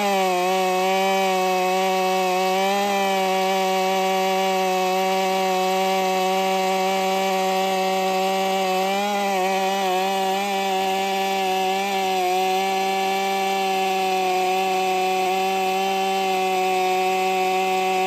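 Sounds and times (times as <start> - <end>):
chainsaw engine at full throttle: 0.0 - 18.0.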